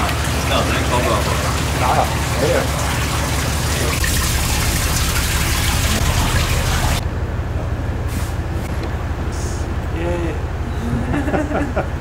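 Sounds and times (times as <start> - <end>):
ship machinery hum: 0.0 - 12.0.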